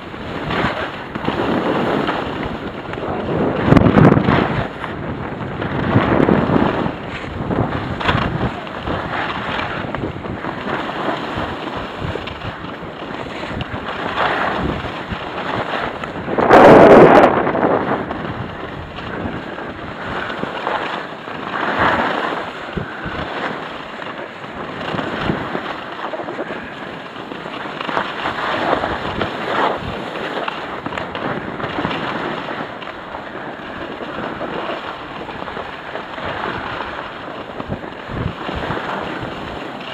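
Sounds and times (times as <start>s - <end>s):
skis sliding on packed snow: 0.0s - 39.9s
wind rushing over microphone: 0.0s - 39.9s.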